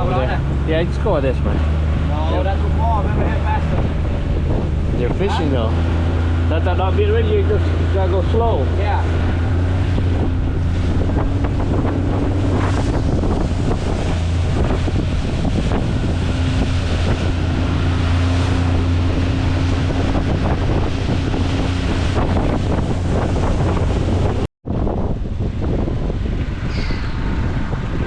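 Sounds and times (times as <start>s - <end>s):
boat motor running: 0.0s - 24.4s
water splashing along hull: 0.0s - 28.0s
wind buffeting microphone: 0.0s - 28.0s.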